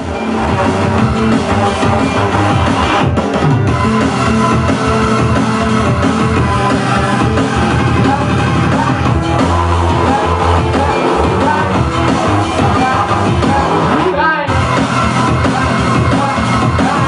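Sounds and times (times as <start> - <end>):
drums: 0.0 - 17.0
loud live band music: 0.0 - 17.0.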